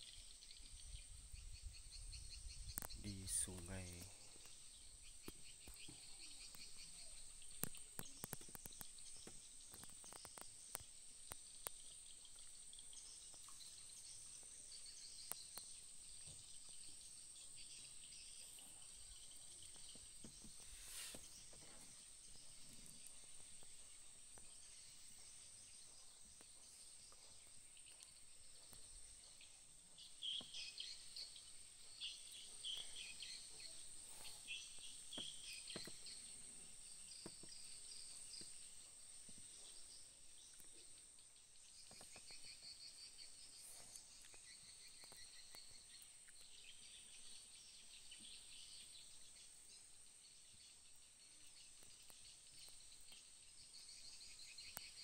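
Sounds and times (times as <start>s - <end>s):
birds and insects chirping: 0.0s - 55.0s.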